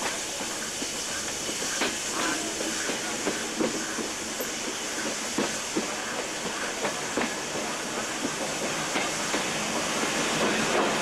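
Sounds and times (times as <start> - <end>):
steady steam hiss: 0.0 - 11.0
train knocking: 0.0 - 11.0.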